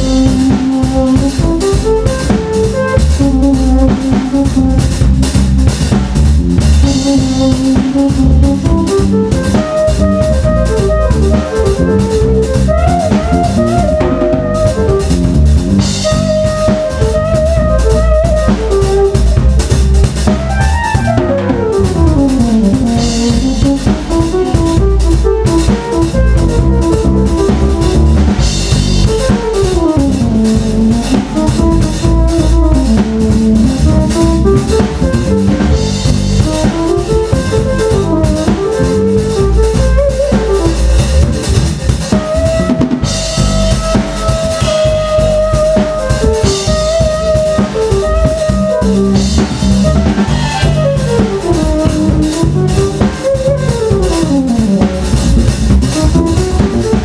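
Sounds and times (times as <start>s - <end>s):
busy drum kit drumming: 0.0s - 57.0s
electric bass: 0.0s - 57.0s
keyboard melodic runs: 0.0s - 57.0s.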